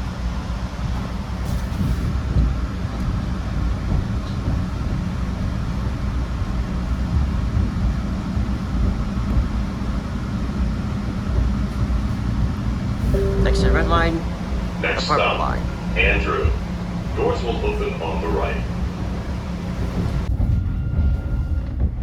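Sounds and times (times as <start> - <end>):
subway train wheels rumbling on rails: 0.0 - 22.0.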